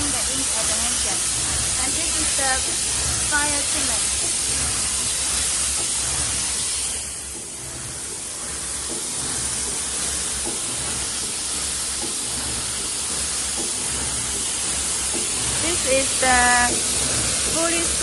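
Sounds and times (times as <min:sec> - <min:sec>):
gas burner hiss: 0:00.0 - 0:18.0
machine pulsing hum: 0:00.0 - 0:18.0.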